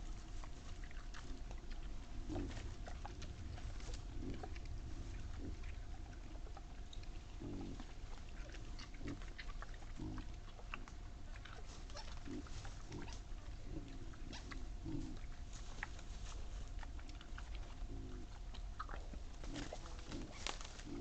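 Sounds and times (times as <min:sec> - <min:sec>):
crunching and chewing: 0:00.0 - 0:21.0
wild boar grunting: 0:00.7 - 0:15.4, 0:17.0 - 0:21.0.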